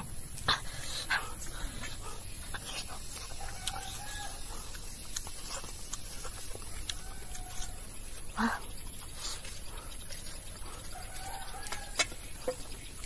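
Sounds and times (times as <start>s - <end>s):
chewing: 0.3s - 13.0s.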